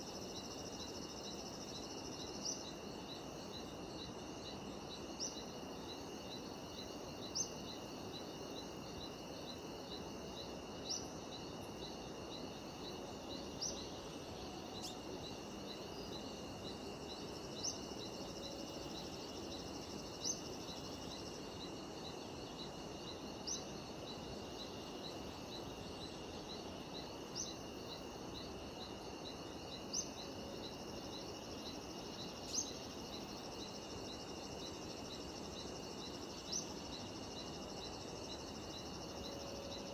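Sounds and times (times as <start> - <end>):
cicadas and insects chirping: 0.0 - 39.9.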